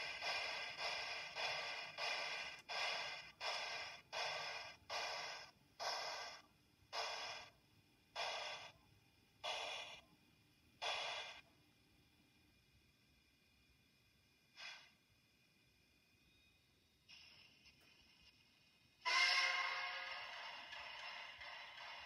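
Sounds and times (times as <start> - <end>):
model steam locomotive chuffs: 0.0 - 11.6, 12.6 - 22.0.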